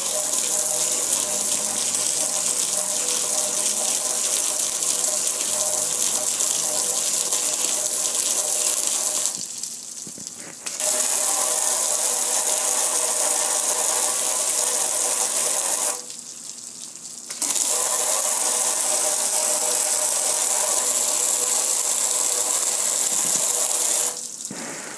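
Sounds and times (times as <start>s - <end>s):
pressure washer spraying: 0.0s - 9.5s, 10.6s - 16.0s, 17.3s - 24.9s.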